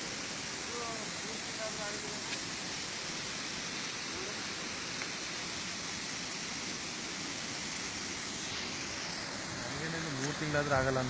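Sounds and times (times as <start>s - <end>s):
rain hiss: 0.0s - 11.0s
running floodwater: 0.0s - 11.0s.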